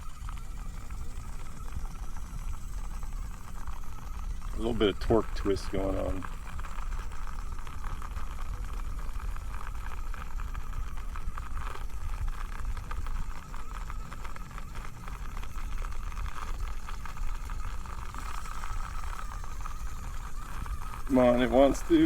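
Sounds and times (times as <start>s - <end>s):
small electric motor whining: 0.0s - 22.0s
wind rumbling on microphone: 0.0s - 22.0s.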